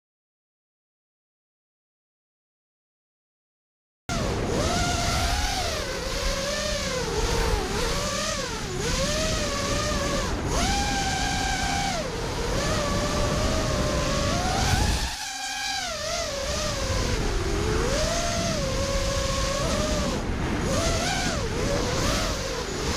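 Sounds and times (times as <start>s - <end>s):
quadcopter motors whining: 4.1s - 22.9s
wind rush: 4.1s - 22.9s.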